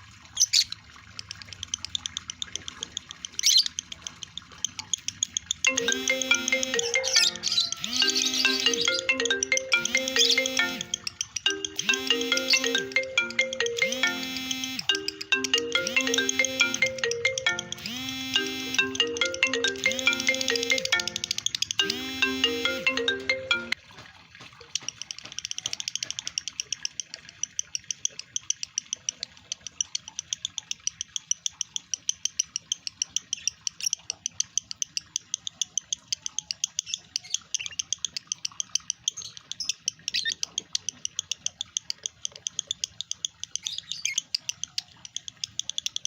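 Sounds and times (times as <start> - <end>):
lovebird high rapid chirps: 0.4 - 23.8, 25.0 - 46.0.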